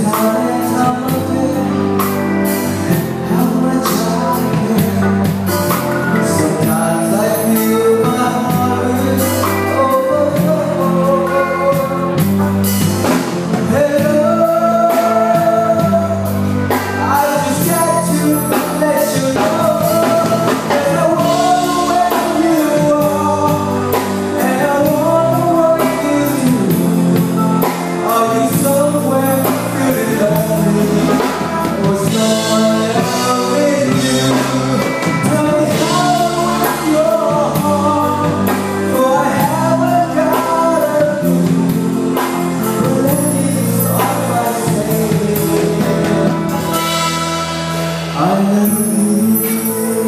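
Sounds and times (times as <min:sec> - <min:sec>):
electronic keyboard: 0:00.0 - 0:50.0
guitar playing: 0:00.0 - 0:50.0
person singing: 0:00.0 - 0:50.0.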